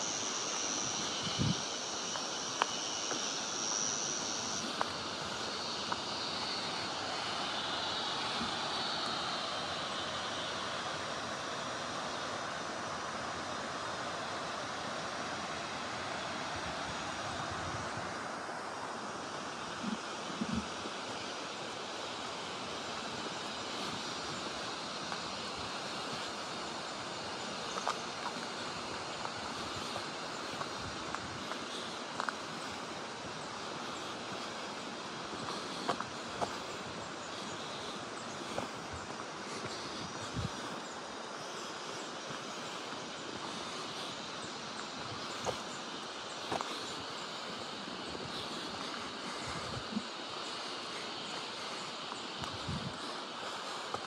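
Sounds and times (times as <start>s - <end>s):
flowing water rushing: 0.0s - 54.0s.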